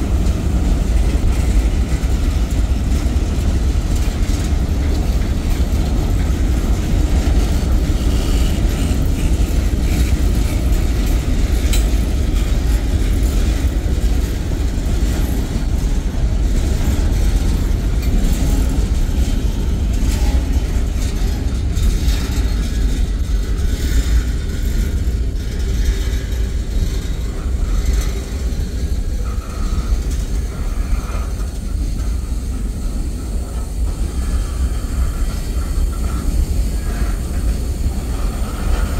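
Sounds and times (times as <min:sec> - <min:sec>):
train knocks: 0:00.0 - 0:38.9
train wheels rumbling on rail: 0:00.0 - 0:38.9.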